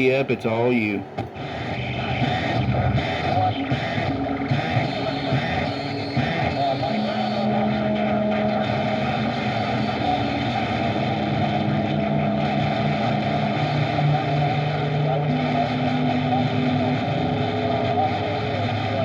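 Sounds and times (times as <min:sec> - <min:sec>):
low whistling radio tones: 0:00.0 - 0:19.0
radio static hiss: 0:00.0 - 0:19.0.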